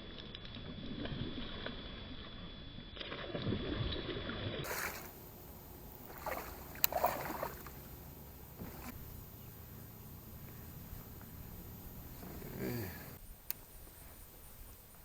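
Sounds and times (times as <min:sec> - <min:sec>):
paddle splashing water: 0:00.0 - 0:13.2.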